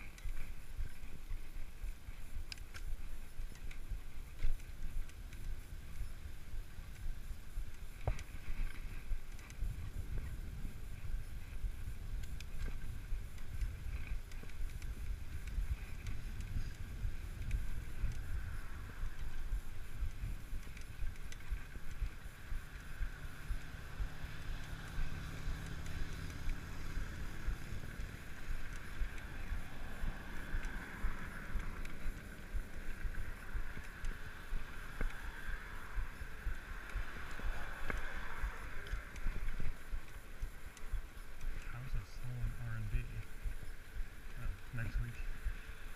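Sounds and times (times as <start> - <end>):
bicycle rolling on pavement: 0.0 - 45.9
wind buffeting microphone: 0.0 - 45.9.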